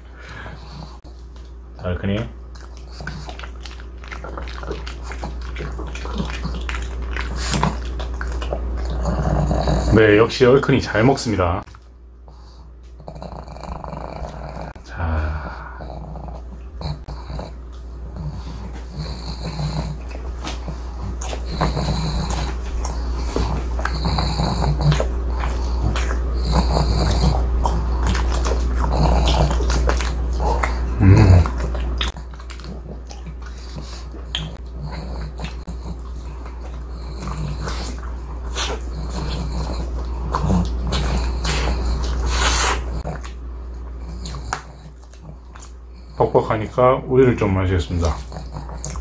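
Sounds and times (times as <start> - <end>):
dog snorting and snuffling: 0.0 - 1.4, 2.2 - 11.6, 12.3 - 49.0
steady low hum: 0.0 - 49.0
person chewing: 2.4 - 9.8, 12.8 - 46.2, 47.9 - 49.0.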